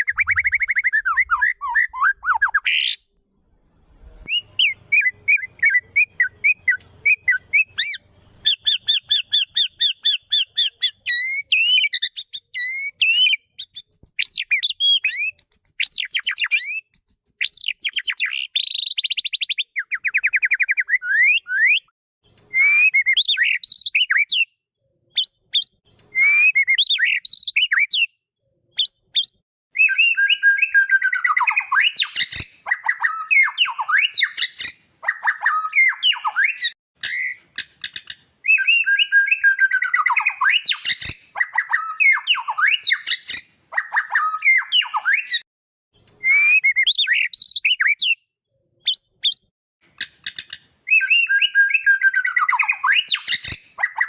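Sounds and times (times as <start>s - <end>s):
bird singing whistles and trills: 0.0s - 28.2s, 28.8s - 45.4s, 46.0s - 49.5s, 50.2s - 54.0s.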